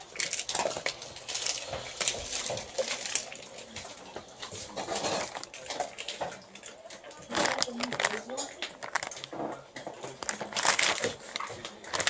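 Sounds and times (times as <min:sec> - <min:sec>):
dogs crunching treats: 0:00.0 - 0:12.0.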